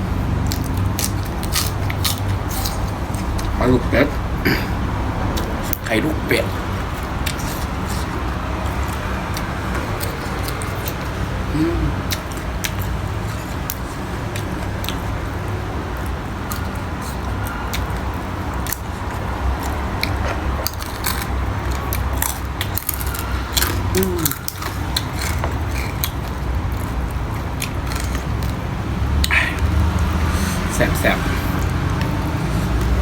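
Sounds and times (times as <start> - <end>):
chewing with mouth clicks: 0.4 - 3.6, 6.6 - 30.7, 31.3 - 33.0.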